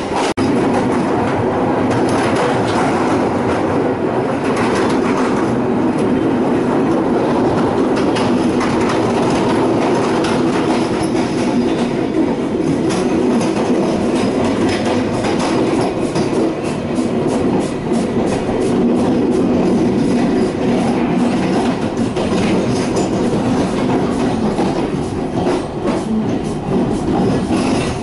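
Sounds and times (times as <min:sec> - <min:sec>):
train rumbling on track: 0:00.0 - 0:28.0
wheels clicking over rail joints: 0:00.0 - 0:28.0.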